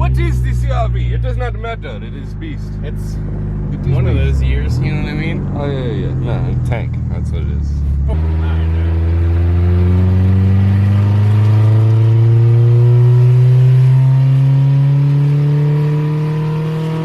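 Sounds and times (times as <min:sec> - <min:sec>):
car engine revs climbing: 0:00.0 - 0:17.0.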